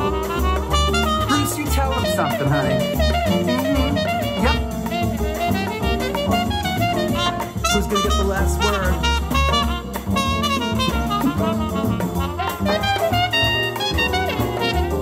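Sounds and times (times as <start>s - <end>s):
jazz band playing: 0.0s - 15.0s
trumpet solos: 0.0s - 15.0s.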